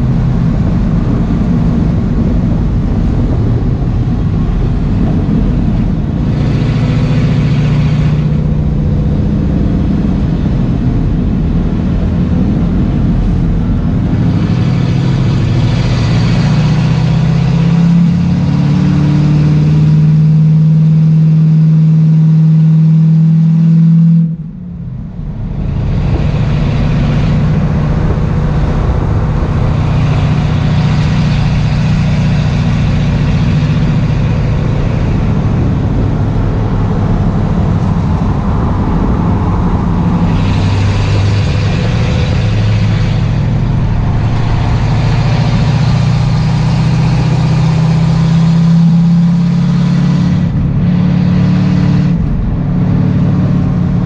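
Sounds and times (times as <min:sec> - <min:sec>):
race car engine at high revs: 0:00.0 - 0:54.0
wind and road noise: 0:00.0 - 0:54.0.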